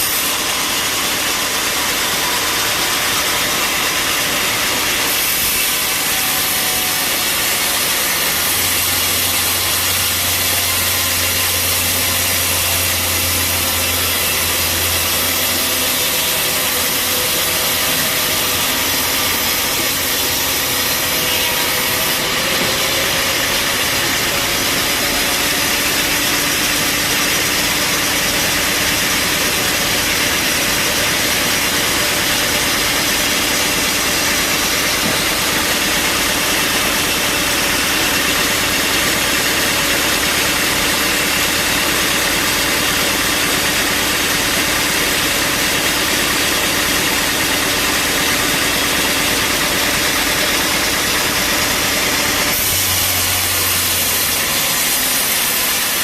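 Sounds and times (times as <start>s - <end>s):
bandsaw running: 0.0s - 56.0s.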